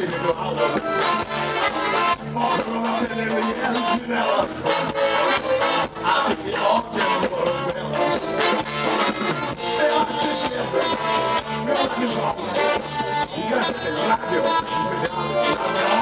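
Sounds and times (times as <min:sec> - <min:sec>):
live band playing pop song: 0:00.0 - 0:16.0.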